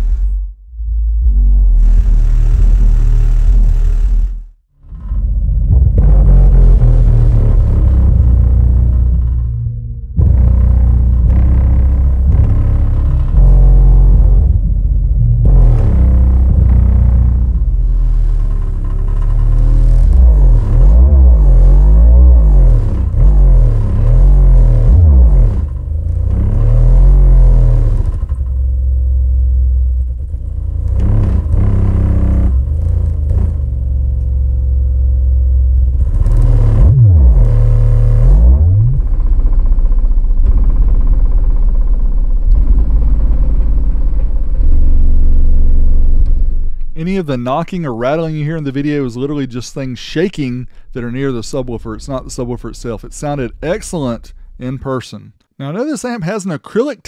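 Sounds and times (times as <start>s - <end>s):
loud bass music from subwoofer: 0.0s - 47.0s.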